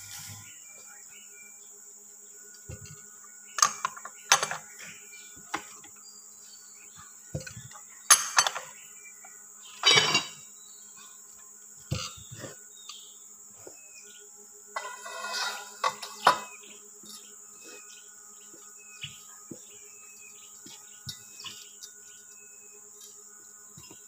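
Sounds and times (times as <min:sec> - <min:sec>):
steady high insect buzz: 0:00.0 - 0:24.0.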